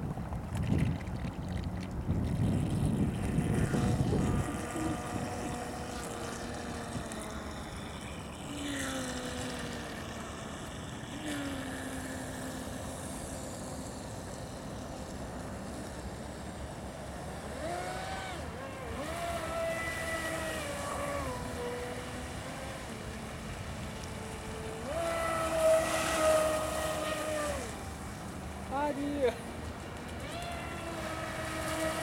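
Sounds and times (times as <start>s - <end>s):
electric boat motor whining: 1.8s - 32.0s.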